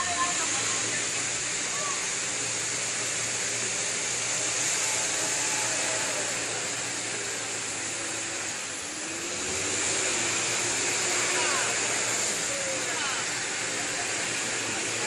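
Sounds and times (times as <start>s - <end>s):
truck engine running hard: 0.0s - 15.0s
wheels spinning in mud: 0.0s - 15.0s.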